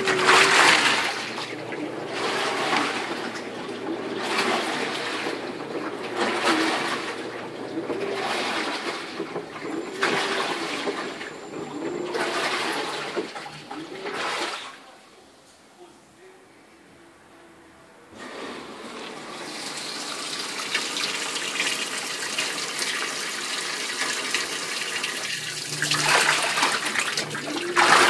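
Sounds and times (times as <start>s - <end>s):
water swishing in washing machine: 0.0s - 15.1s, 18.2s - 28.0s
washing machine motor whine: 0.0s - 15.2s, 17.0s - 28.0s.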